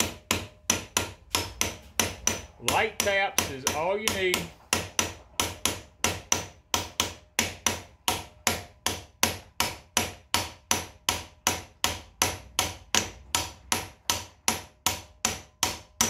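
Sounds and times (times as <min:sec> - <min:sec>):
small hammer tapping metal: 0:00.0 - 0:16.0.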